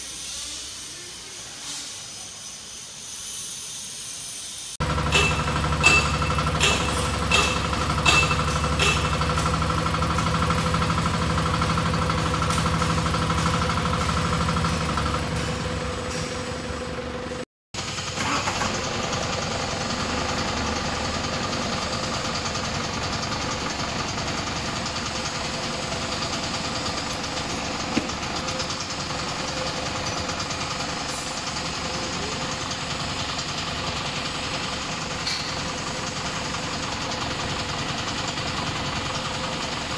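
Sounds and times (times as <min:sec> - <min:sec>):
diesel engine running: 0:04.8 - 0:39.9
forklift engine running: 0:04.8 - 0:39.9.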